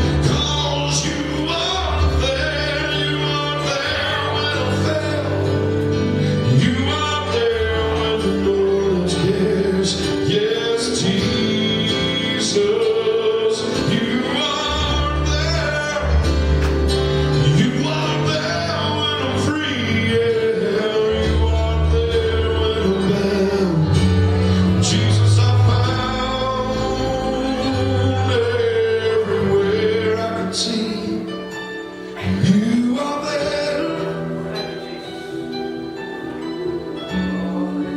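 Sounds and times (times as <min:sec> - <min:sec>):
band playing gospel: 0:00.0 - 0:37.9
man singing: 0:00.0 - 0:37.9.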